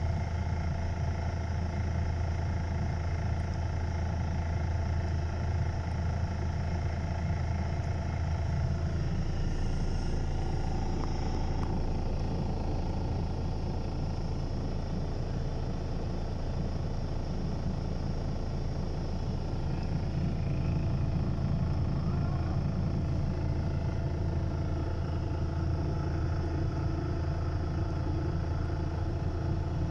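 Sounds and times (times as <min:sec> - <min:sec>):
diesel truck engine humming: 0:00.0 - 0:29.9.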